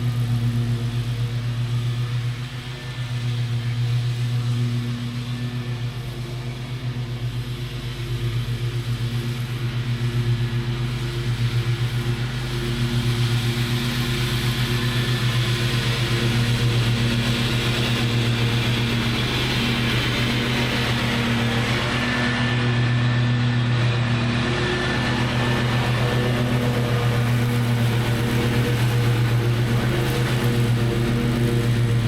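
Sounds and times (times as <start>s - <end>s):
lawn mower engine running: 0.0s - 32.0s.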